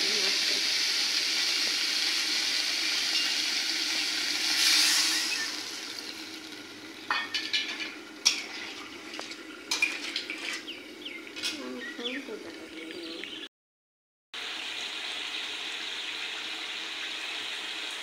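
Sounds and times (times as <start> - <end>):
vegetables sizzling in a pan: 0.0 - 13.2, 14.4 - 18.0.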